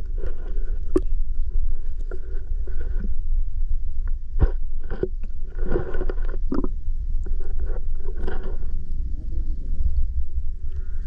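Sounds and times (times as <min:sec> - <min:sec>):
muffled underwater rumble: 0:00.0 - 0:11.0.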